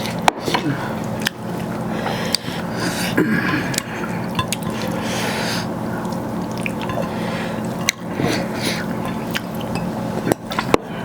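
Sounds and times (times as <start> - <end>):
wet eating sounds: 0.0 - 11.0.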